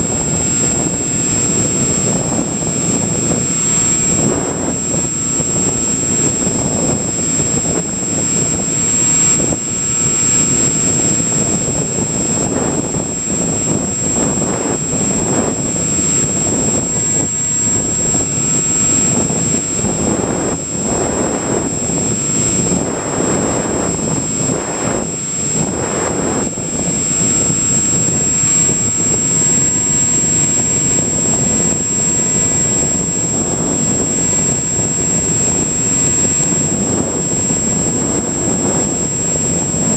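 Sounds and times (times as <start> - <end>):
air rushing over microphone: 0.0 - 39.9
electric motor and propeller: 0.0 - 39.9
thin high whine: 0.0 - 39.9.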